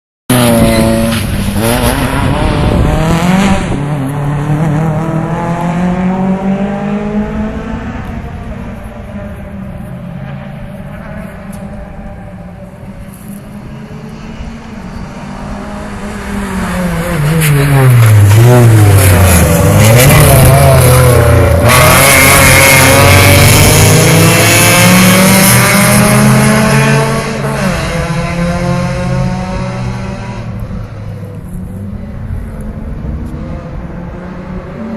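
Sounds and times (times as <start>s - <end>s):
race car engines revving: 0.3s - 34.9s.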